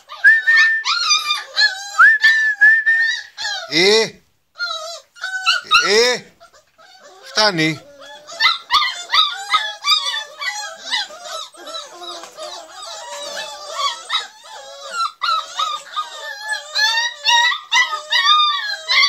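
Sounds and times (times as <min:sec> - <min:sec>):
puppies crying and yelping: 0:00.0 - 0:19.0.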